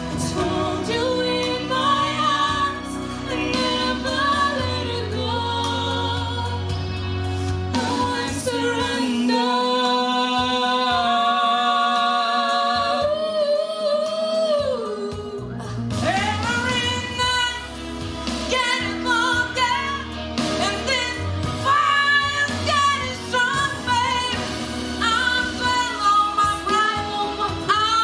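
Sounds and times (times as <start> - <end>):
backing track: 0.0 - 28.0
women singing a ballad duet: 0.0 - 28.0.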